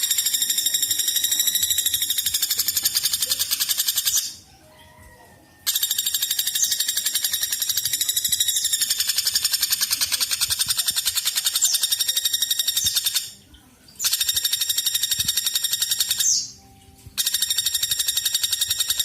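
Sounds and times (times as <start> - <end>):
woodpecker rattling trill: 0.0 - 19.0.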